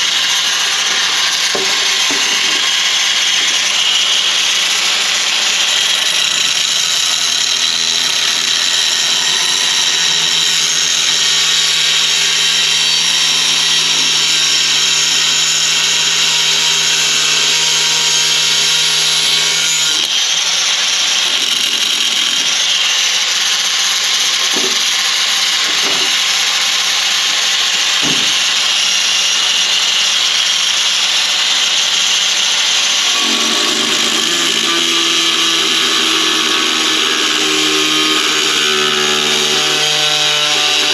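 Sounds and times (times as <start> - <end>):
power tool cutting metal: 0.0 - 40.9.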